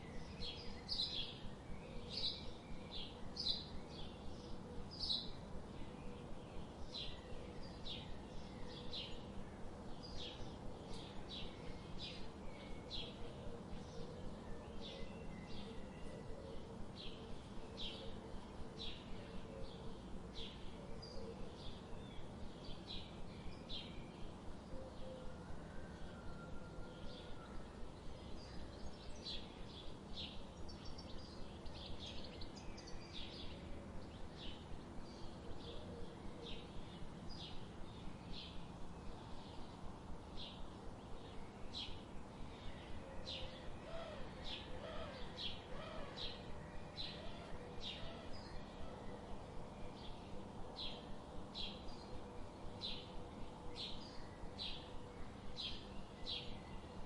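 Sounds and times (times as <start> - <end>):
low background noise: 0.0 - 57.0
songbirds chirping: 0.0 - 57.0.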